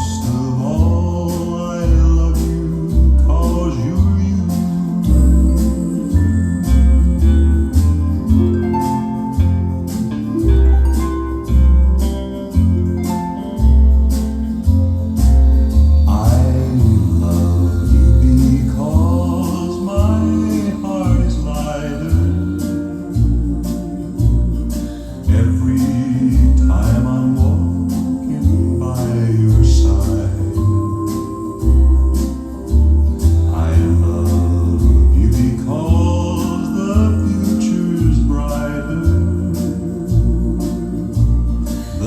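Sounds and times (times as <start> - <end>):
heavy bass line: 0.0 - 42.0
song with singing voice: 0.0 - 42.0.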